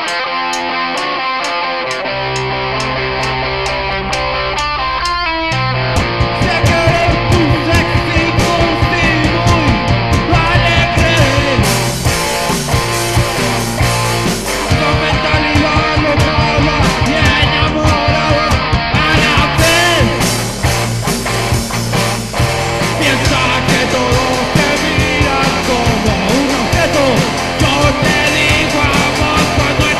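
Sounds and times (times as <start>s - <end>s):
rock band playing: 0.0s - 29.9s.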